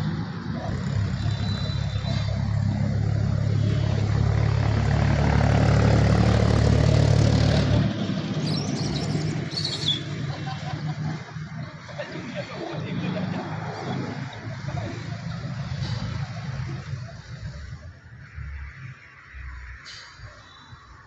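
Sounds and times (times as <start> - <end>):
vehicle engine humming: 0.0 - 18.1.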